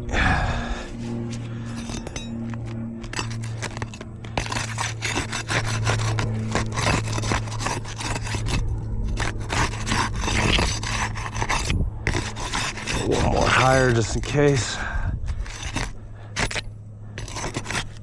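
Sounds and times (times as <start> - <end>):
steady low hum: 0.0 - 18.0
metal bar scraping roof shingles: 1.6 - 18.0.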